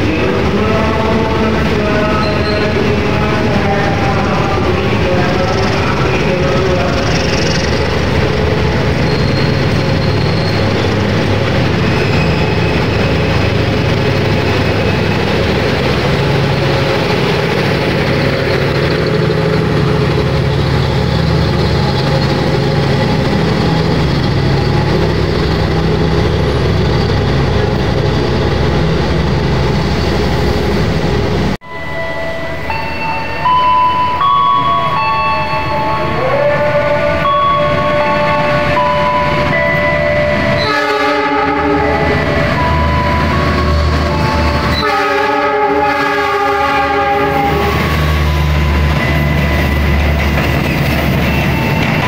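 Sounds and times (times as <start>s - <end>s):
station background: 0.0s - 10.1s, 10.7s - 46.0s
train wheels rumbling on rail: 0.0s - 31.6s, 33.4s - 52.0s.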